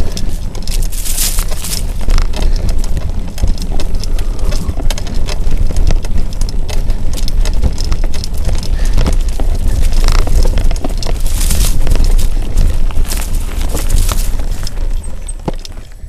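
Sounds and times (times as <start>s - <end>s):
bike tyres clicking and rattling: 0.0s - 16.0s
mountain bike rumble and buffeting: 0.0s - 16.0s.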